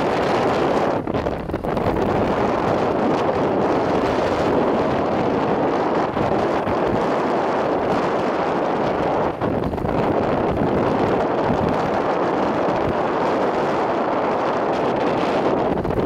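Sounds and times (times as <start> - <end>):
vehicle road noise: 0.0 - 16.0
wind buffeting microphone: 0.0 - 16.0.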